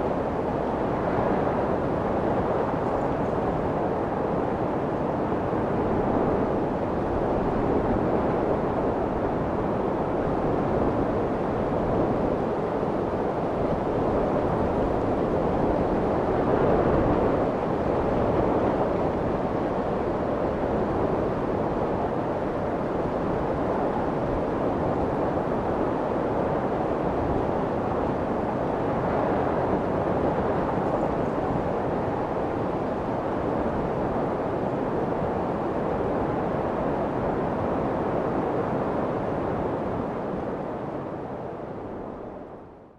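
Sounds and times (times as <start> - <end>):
muffled white noise: 0.0 - 42.9.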